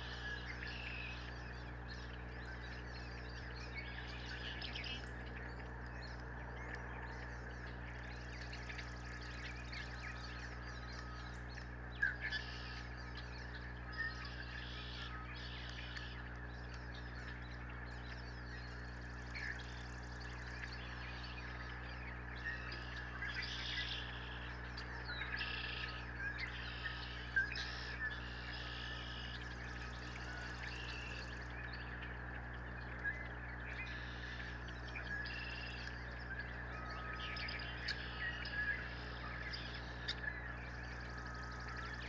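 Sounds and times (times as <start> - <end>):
low electrical hum: 0.0 - 42.0
songbirds buzzy calls and chirps: 0.0 - 42.0.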